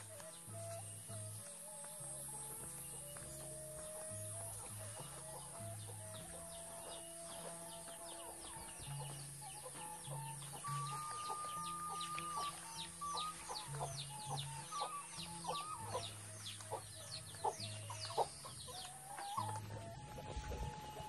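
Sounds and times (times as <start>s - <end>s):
chickens chirping: 0.0s - 21.0s
soft background music: 0.0s - 21.0s.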